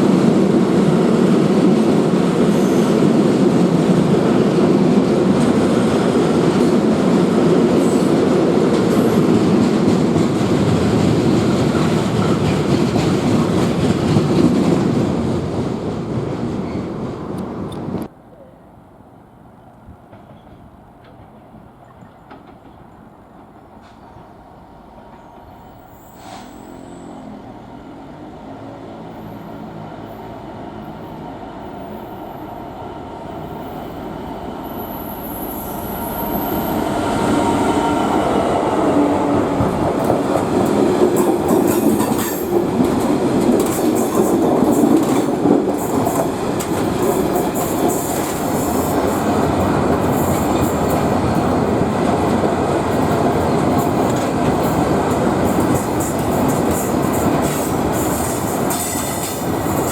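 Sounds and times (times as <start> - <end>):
train wheels rumbling and clattering: 0.0 - 18.1, 19.9 - 26.8, 33.1 - 59.9.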